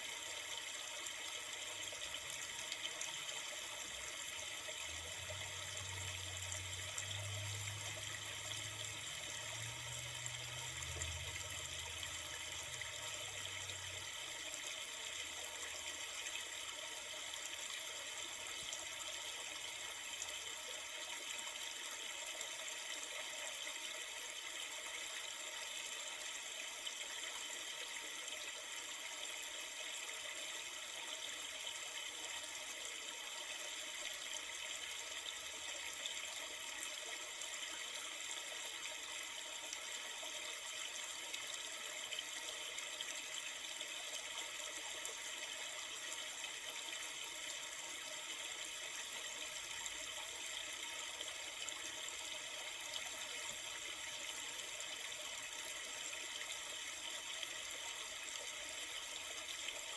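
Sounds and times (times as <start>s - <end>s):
river water flowing: 0.2s - 59.9s.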